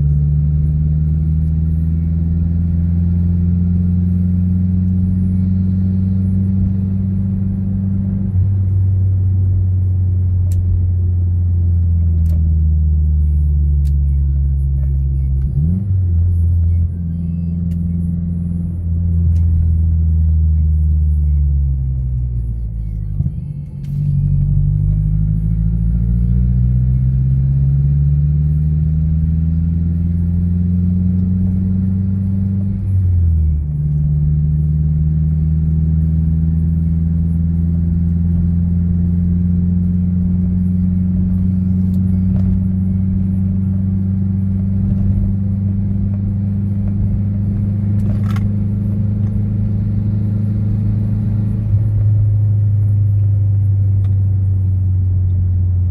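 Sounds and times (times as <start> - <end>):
car engine droning: 0.0 - 55.9.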